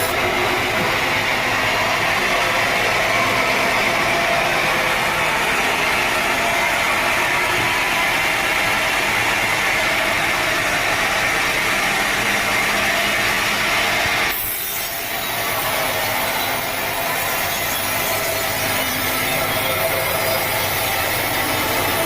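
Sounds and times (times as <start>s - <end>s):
power saw cutting log: 0.0s - 22.0s.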